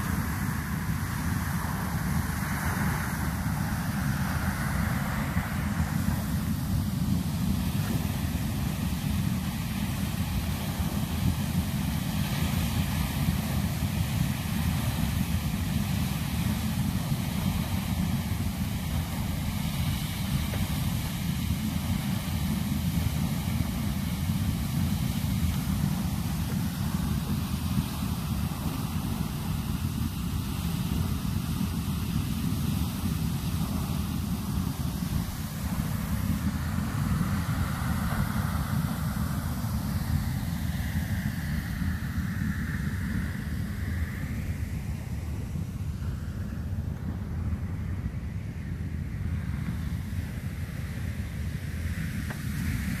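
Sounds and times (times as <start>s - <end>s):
geyser water jet roaring: 0.0s - 53.0s.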